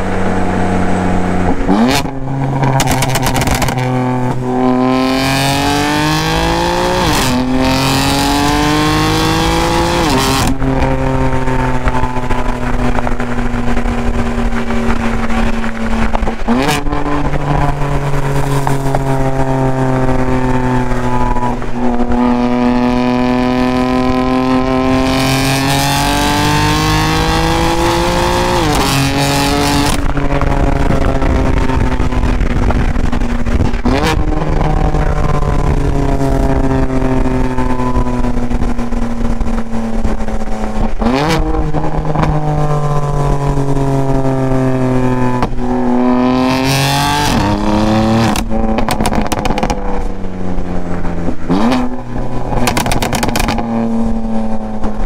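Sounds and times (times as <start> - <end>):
car exhaust engine note: 0.0 - 55.0.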